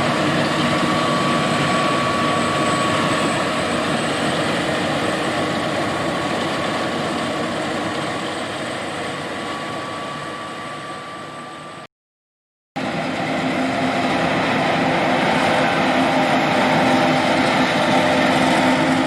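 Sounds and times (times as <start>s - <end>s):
combine harvester running: 0.0s - 11.8s, 12.8s - 19.0s.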